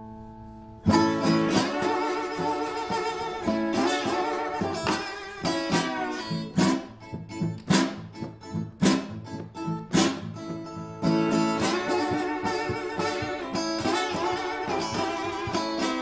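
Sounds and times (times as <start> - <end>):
acoustic guitar blues riff: 0.2 - 16.0.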